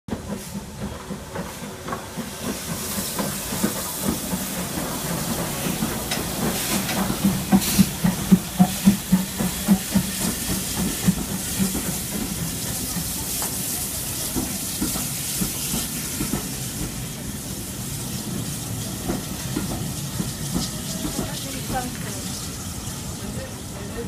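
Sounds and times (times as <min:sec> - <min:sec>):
train wheels clicking over rail joints: 0:00.1 - 0:23.1
steam hissing: 0:00.2 - 0:24.0.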